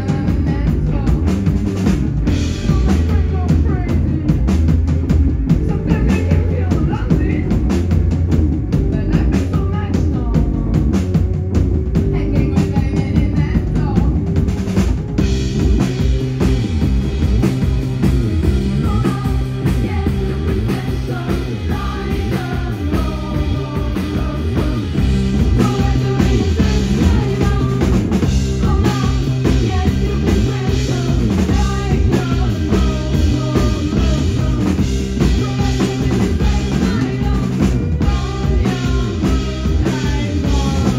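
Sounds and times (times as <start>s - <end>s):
person singing: 0.0s - 1.5s, 2.3s - 4.5s, 5.5s - 8.0s, 8.7s - 11.2s, 12.0s - 14.4s, 18.4s - 40.9s
live band playing: 0.0s - 40.9s.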